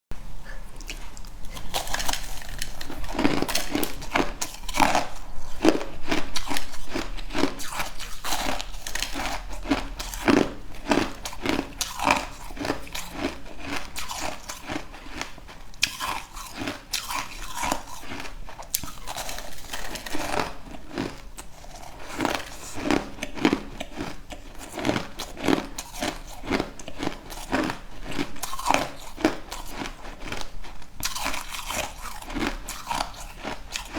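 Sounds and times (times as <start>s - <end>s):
person chewing crunchy food: 0.4s - 33.9s.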